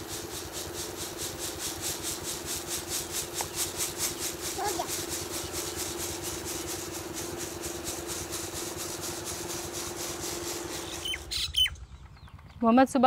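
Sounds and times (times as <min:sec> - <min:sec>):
grain pouring onto a heap: 0:00.0 - 0:11.0
electric fan humming: 0:00.0 - 0:13.0.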